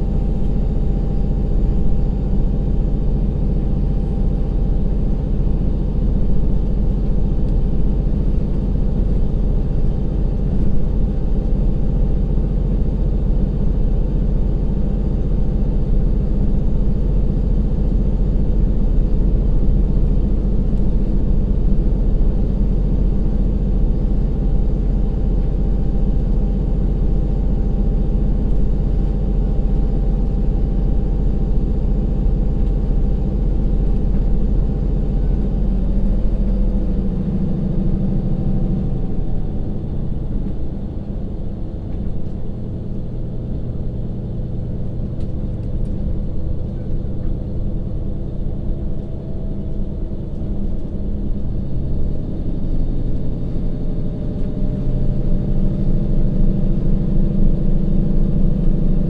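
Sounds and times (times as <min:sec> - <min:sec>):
diesel engine under power: 0:00.0 - 0:59.0.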